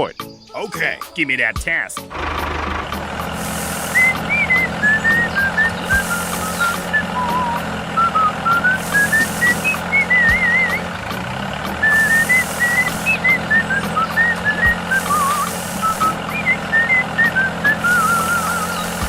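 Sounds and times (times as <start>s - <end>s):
whistled melody: 2.3s - 19.0s.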